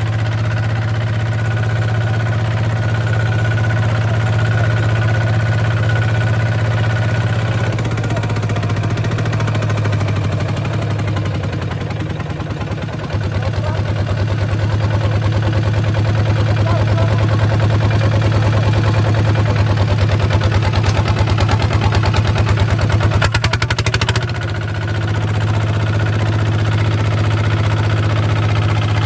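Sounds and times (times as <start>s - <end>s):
bulldozer engine running: 0.0s - 29.0s.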